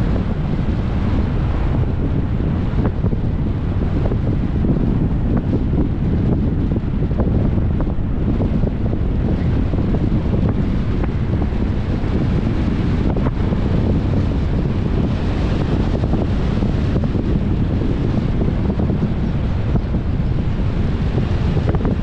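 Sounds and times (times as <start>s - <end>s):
tyres rumbling on road: 0.0s - 22.0s
wind buffeting microphone: 0.0s - 22.0s.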